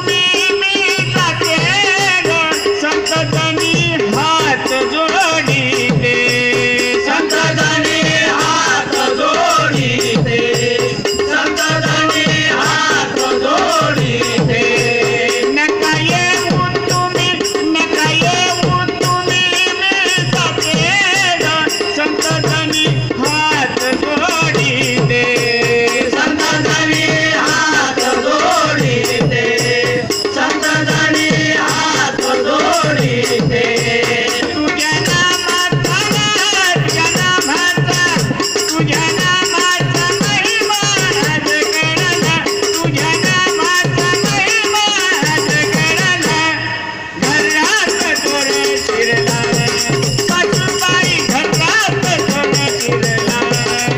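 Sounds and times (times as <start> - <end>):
hand cymbals jingling: 0.0 - 46.4, 47.2 - 53.9
drum strokes: 0.1 - 53.9.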